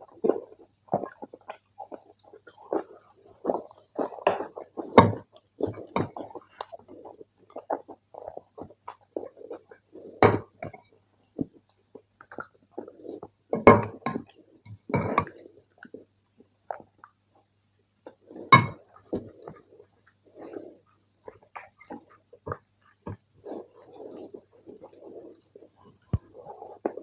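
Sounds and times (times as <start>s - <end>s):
wet mixing and chewing: 0.0s - 27.0s.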